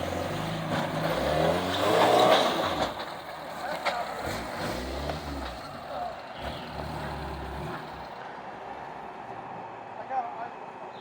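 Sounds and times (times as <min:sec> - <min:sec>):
off-road vehicle engine: 0:00.0 - 0:11.0.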